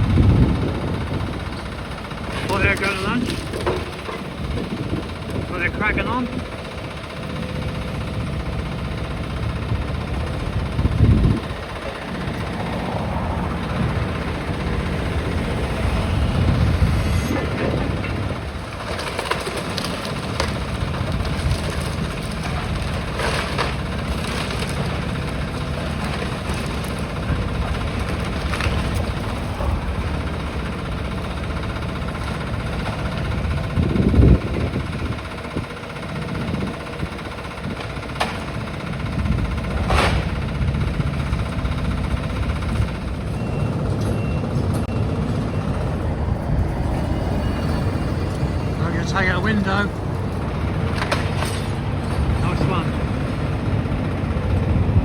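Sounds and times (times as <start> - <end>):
excavator diesel engine running: 0.0 - 55.0
masonry debris crunching: 0.1 - 43.4, 44.6 - 55.0.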